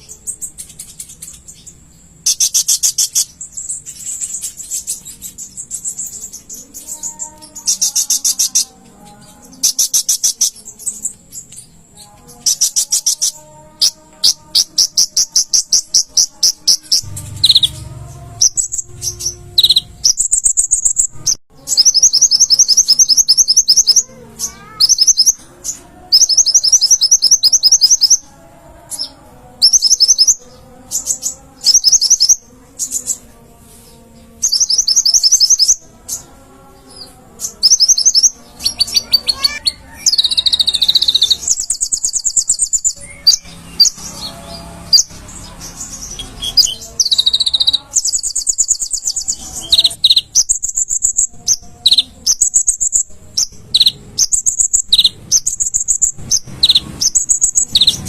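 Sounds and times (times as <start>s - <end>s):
sunbird trilling song: 0.0s - 28.3s, 28.9s - 58.0s.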